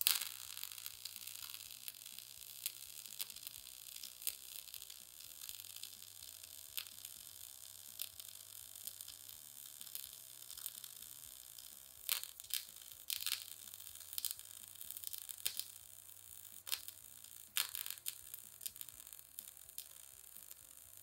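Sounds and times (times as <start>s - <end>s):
welding arc crackling with pops: 0.0s - 21.0s.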